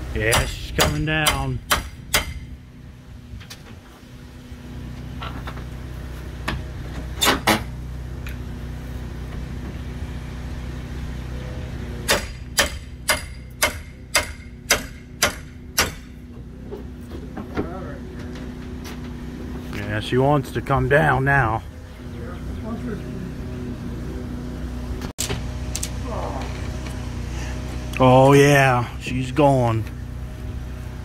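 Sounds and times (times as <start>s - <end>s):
low engine-like hum: 0.0s - 31.0s.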